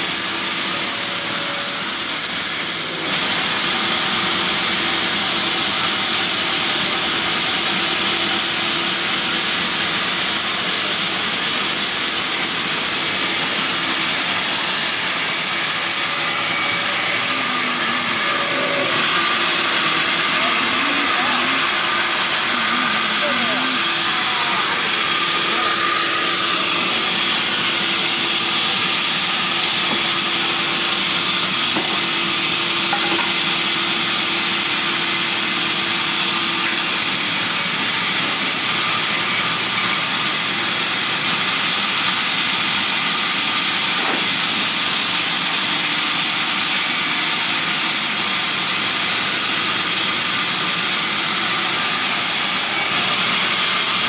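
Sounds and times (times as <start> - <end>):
woodworking power tool whining: 0.0 - 54.0.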